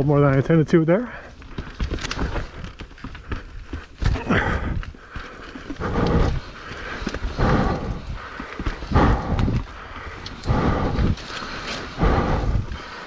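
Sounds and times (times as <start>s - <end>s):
person breathing hard: 1.1s - 13.0s.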